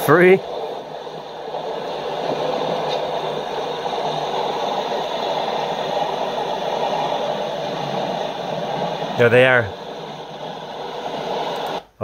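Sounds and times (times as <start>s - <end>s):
rushing noise through speakers: 0.0s - 12.0s.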